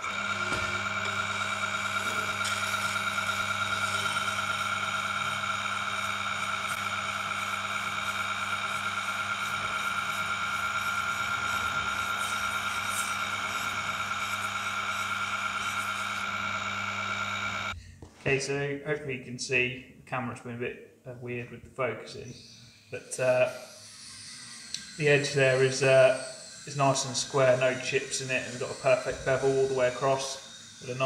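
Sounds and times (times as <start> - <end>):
wet grinder motor whine: 0.0 - 17.8, 22.3 - 31.0.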